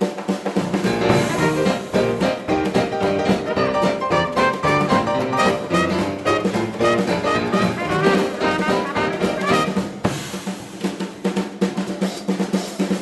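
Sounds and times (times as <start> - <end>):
drumming: 0.0 - 13.0
jazz dance band playing: 0.0 - 13.0.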